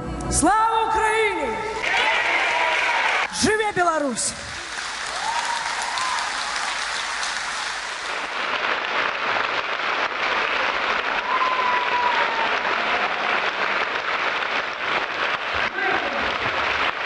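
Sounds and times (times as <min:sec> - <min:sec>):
audience applauding: 0:01.8 - 0:17.0.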